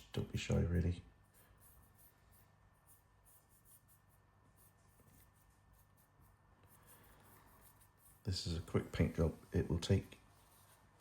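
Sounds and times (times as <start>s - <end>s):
paintbrush strokes: 0.6s - 11.0s.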